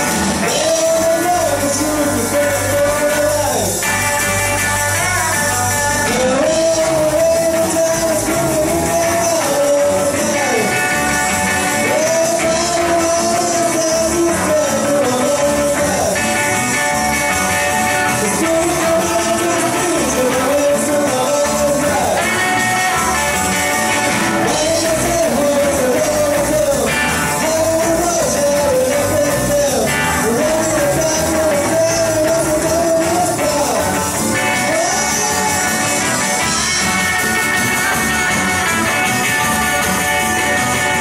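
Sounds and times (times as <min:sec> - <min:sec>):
live rock band playing: 0:00.0 - 0:41.0
sliding lead guitar melody: 0:00.0 - 0:41.0.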